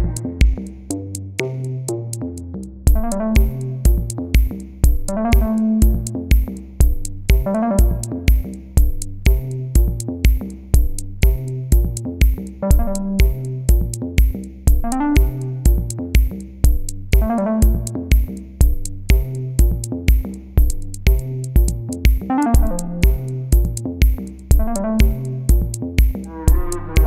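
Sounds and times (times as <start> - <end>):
drum machine beat: 0.0 - 2.2, 2.9 - 27.0
synthesizer bass and melody: 0.0 - 27.0.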